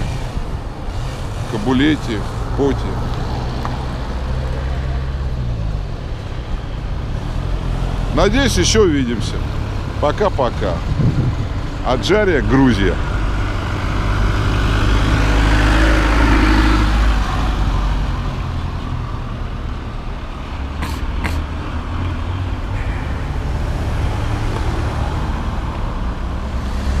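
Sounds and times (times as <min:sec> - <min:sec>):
traffic passing: 0:00.0 - 0:27.0.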